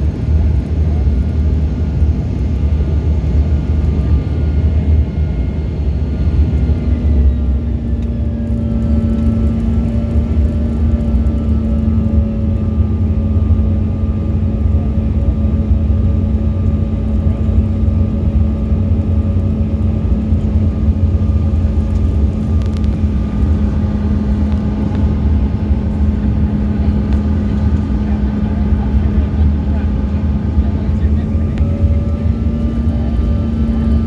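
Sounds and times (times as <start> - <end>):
constant low hum: 0.0 - 34.0
jet engines rumbling: 0.0 - 34.0.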